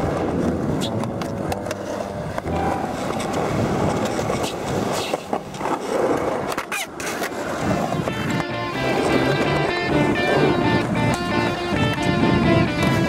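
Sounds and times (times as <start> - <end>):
skateboard clacking on concrete: 0.0 - 13.0
skateboard wheels rolling on concrete: 0.0 - 13.0.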